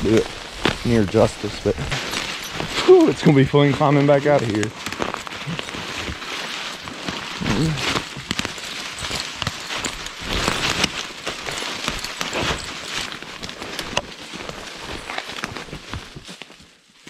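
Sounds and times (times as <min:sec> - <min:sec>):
footsteps through fallen leaves: 0:00.0 - 0:17.0.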